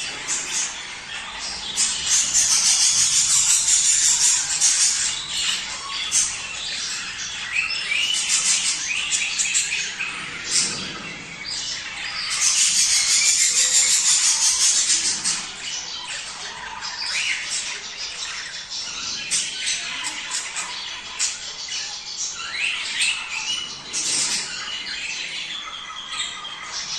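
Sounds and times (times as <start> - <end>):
budgerigars chattering and chirping: 0.0 - 26.9.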